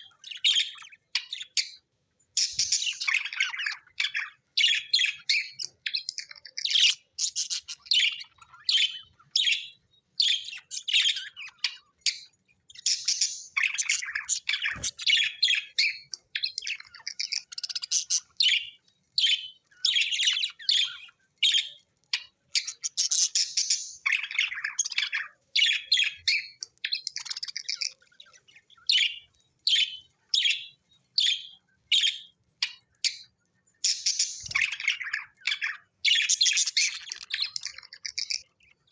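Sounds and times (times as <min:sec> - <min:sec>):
budgies chirping and chattering: 0:00.0 - 0:38.9.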